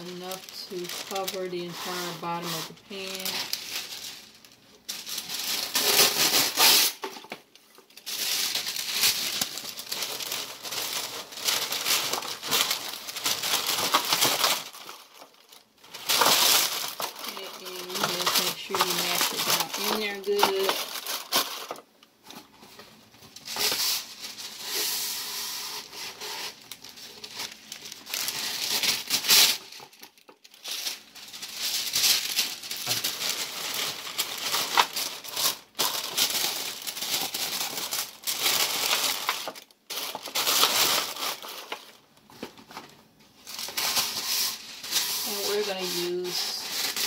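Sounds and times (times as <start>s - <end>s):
wax paper crinkling: 0.0s - 47.0s.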